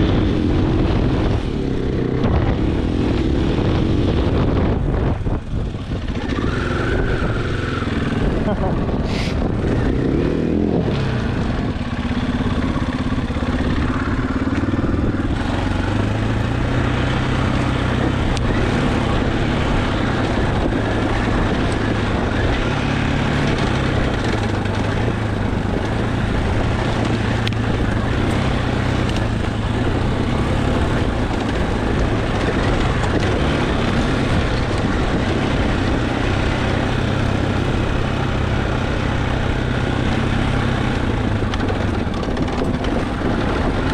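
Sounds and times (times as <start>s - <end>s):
constant rushing noise: 0.0s - 43.9s
dirt bike engine running: 0.0s - 43.9s.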